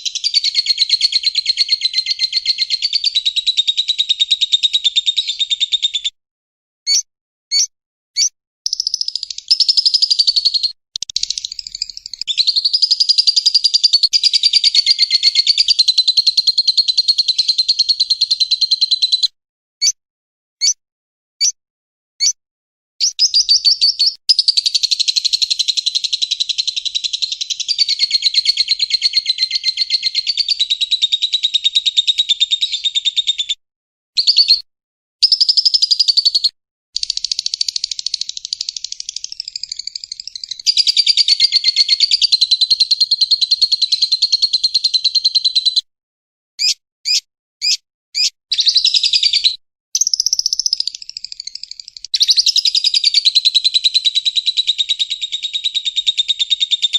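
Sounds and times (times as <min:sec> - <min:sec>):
bird chirps: 0:00.0 - 0:06.2, 0:06.9 - 0:20.0, 0:23.0 - 0:33.6, 0:34.2 - 0:45.9, 0:46.6 - 0:56.9.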